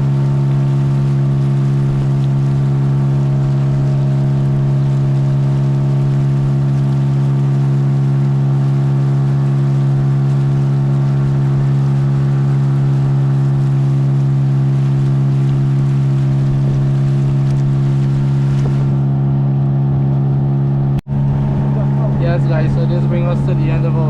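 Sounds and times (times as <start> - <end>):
engine droning steadily: 0.0 - 24.0.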